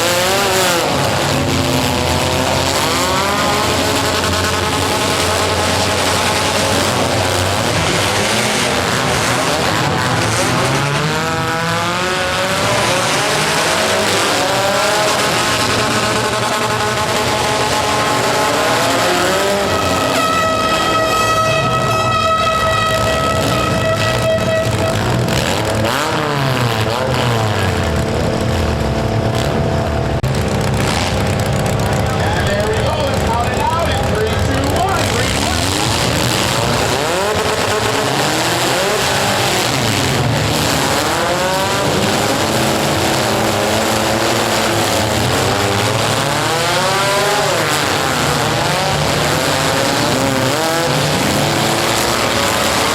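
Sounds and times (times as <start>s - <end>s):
tyres squealing on dirt: 0.0s - 28.8s, 30.4s - 52.9s
car engines revving: 0.0s - 52.9s.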